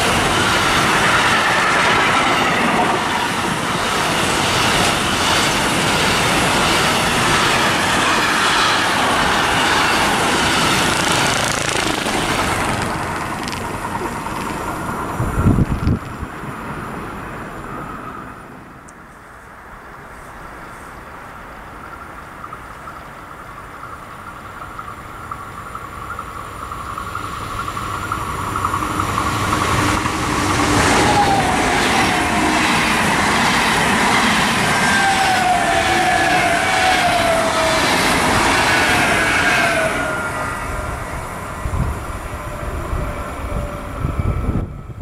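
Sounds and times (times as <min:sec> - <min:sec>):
electric train passing at speed: 0:00.0 - 0:45.0.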